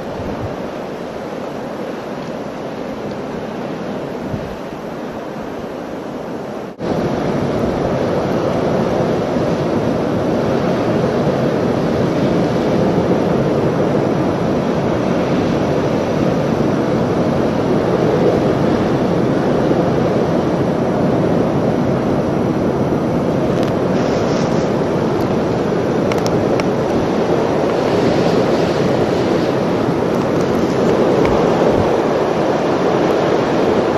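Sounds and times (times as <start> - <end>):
wind blowing across microphone: 0.0 - 33.9.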